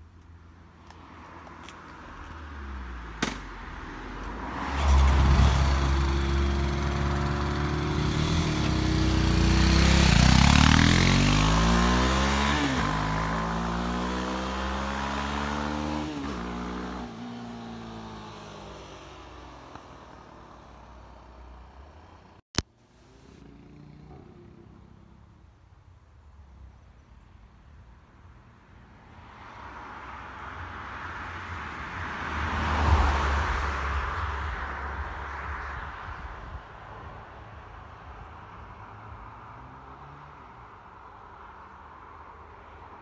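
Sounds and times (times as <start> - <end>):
vehicle engines passing by: 0.0 - 22.4, 23.0 - 43.0.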